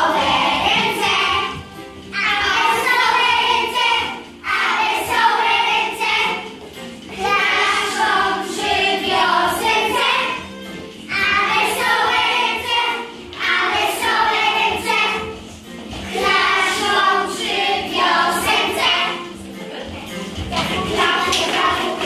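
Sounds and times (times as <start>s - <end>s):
children singing together: 0.0s - 19.4s, 20.3s - 22.0s
backing music: 0.0s - 22.0s.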